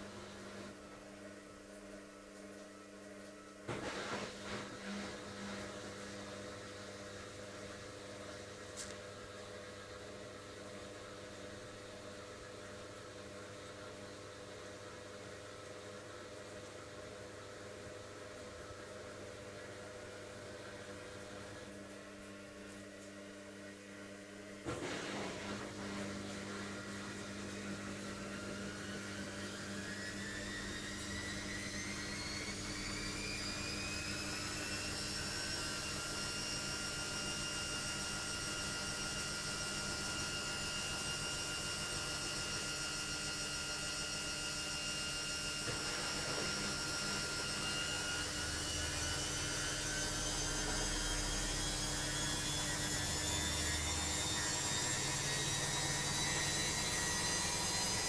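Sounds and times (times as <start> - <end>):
washing machine motor whine: 0.0 - 58.0.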